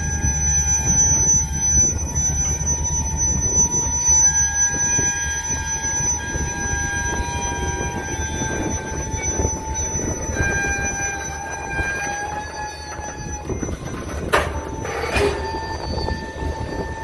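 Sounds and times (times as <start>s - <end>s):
high wheel squeal: 0.0s - 17.0s
train wheels rumbling on rail: 0.0s - 17.0s.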